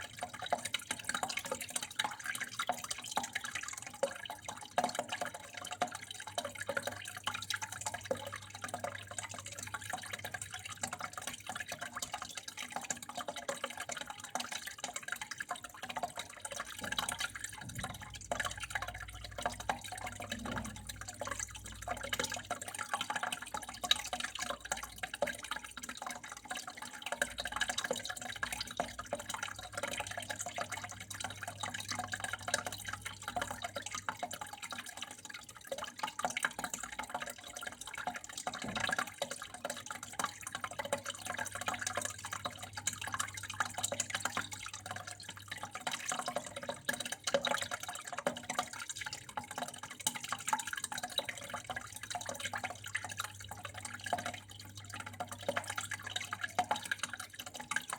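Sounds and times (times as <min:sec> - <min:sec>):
water trickling and dripping: 0:00.0 - 0:57.9.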